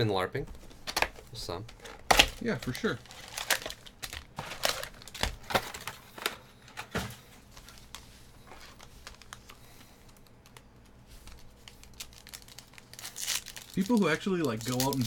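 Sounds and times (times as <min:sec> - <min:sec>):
foil packs handled: 0:00.9 - 0:10.4, 0:11.3 - 0:15.0.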